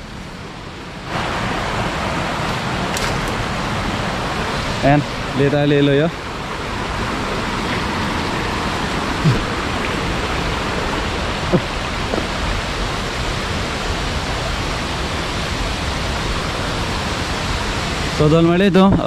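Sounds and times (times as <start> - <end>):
stream flowing over rocks: 0.0 - 18.9.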